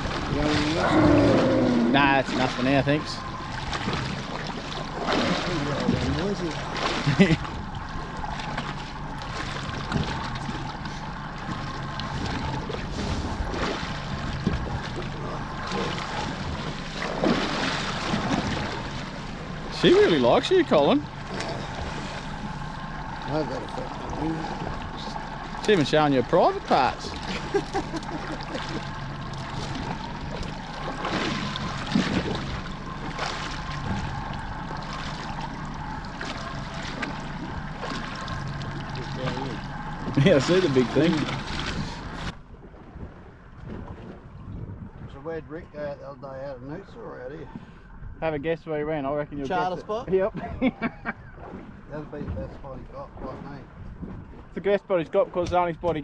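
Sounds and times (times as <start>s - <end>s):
steady low hum: 0.0s - 56.0s
water noise: 0.0s - 56.0s
wind: 0.0s - 56.0s.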